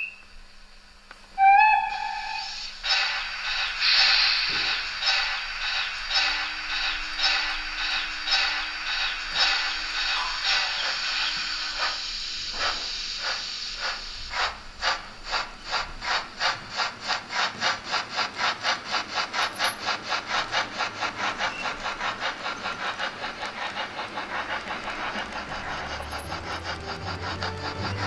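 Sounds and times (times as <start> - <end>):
model steam locomotive chuffing: 0.0 - 28.0.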